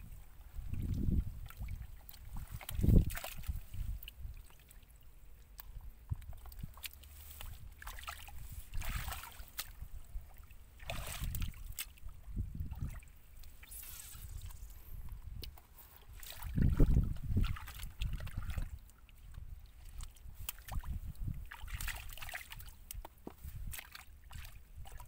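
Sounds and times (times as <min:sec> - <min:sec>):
muddy water splashes: 0:00.0 - 0:25.0
hands squelching in wet mud: 0:00.7 - 0:04.8, 0:05.4 - 0:25.0.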